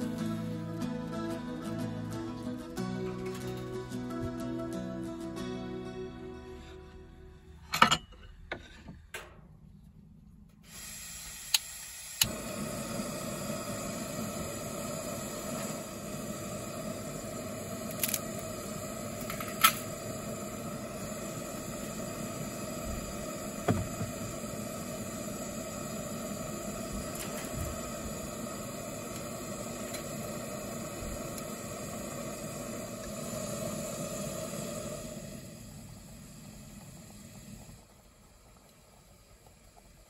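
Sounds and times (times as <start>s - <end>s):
gas stove burner hissing: 0.0s - 4.5s, 10.5s - 40.0s.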